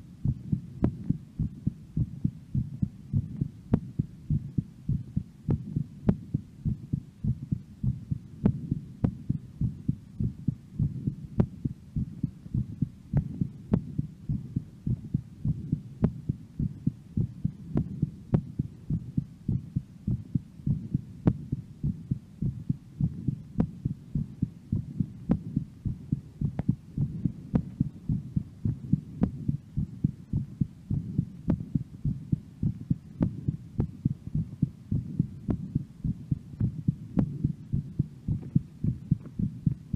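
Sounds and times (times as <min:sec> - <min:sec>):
amplified heartbeat: 0:00.0 - 0:39.9.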